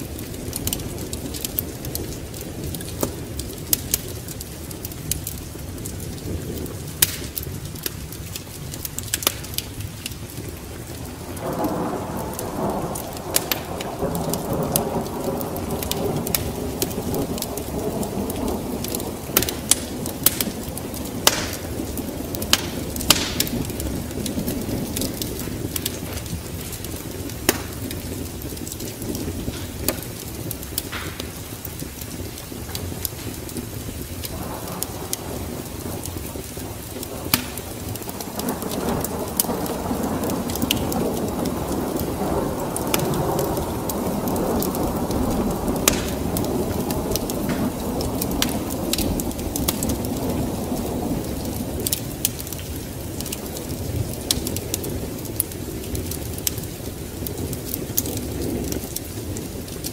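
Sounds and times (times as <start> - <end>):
steady rain: 0.0 - 59.9
thunder rumbling: 0.0 - 59.9
wood fire crackling and popping: 0.0 - 59.9.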